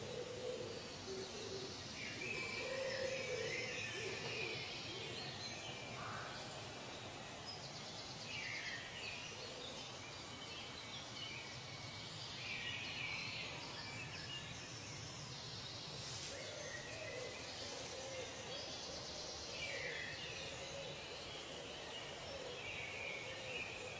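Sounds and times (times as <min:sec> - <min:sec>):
steady background hiss: 0:00.0 - 0:23.9.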